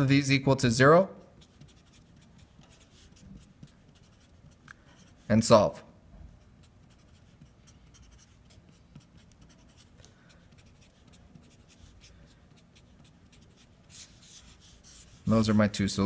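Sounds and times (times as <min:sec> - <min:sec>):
marker scratching on paper: 0:01.2 - 0:05.3, 0:06.4 - 0:15.7.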